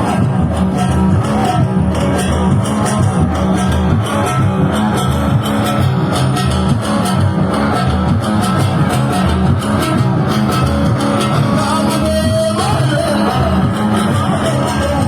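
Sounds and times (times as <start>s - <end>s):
band playing party music: 0.0s - 15.0s.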